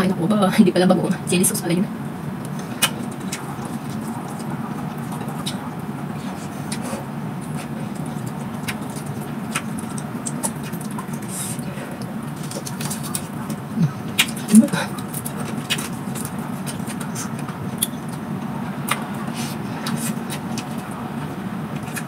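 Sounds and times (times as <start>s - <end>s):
steady low hum: 0.0s - 22.0s
chewing and mouth smacks: 2.4s - 22.0s.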